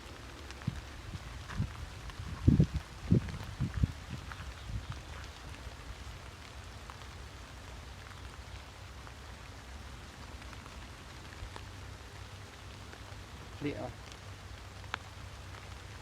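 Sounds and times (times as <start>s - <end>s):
rain-like hiss: 0.0s - 16.0s.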